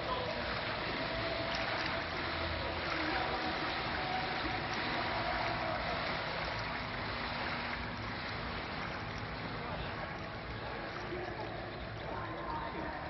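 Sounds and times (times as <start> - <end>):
faint motorboat engine hum: 0.0 - 13.0
water lapping against riverbank: 0.0 - 13.0.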